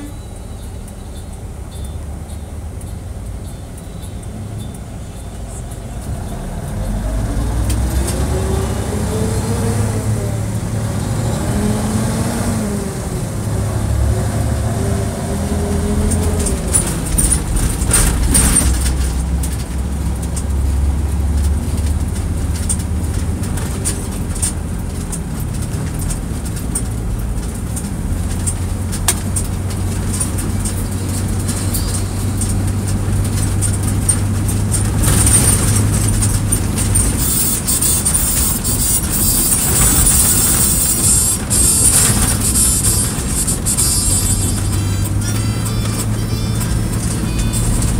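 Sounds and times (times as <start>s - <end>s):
car engine: 0.0s - 47.9s
road noise inside car: 0.0s - 47.9s.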